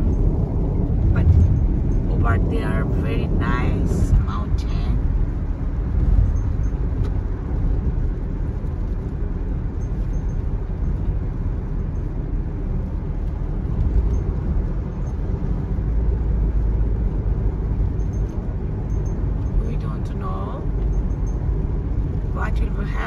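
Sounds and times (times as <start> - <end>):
tyres rumbling on wet road: 0.0 - 23.0.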